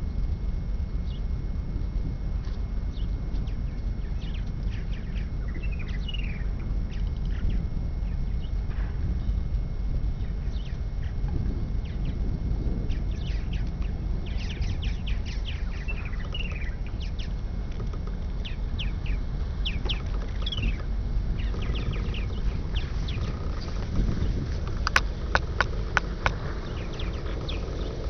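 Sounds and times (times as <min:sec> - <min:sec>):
steady low rumble: 0:00.0 - 0:28.0
birds chirping: 0:02.8 - 0:28.0.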